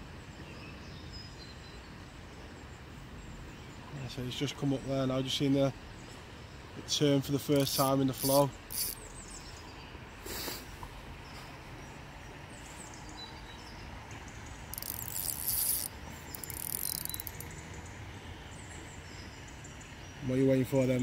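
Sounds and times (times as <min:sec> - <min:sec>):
river water running: 0:00.0 - 0:21.0.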